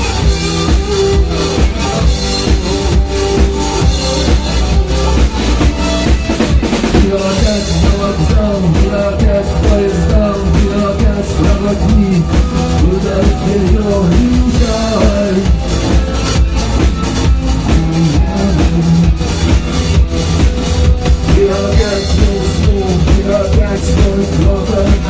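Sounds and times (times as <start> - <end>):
bass guitar: 0.0 - 25.0
drum kit beat: 0.0 - 25.0
lead melody: 0.0 - 25.0.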